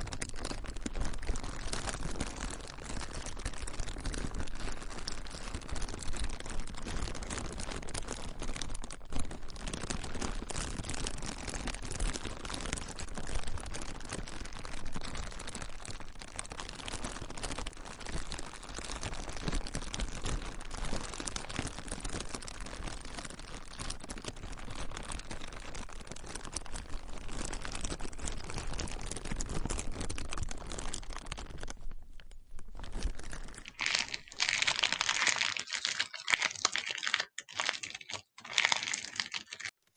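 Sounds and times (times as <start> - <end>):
plastic crumpling and crinkling: 0.0 - 39.9.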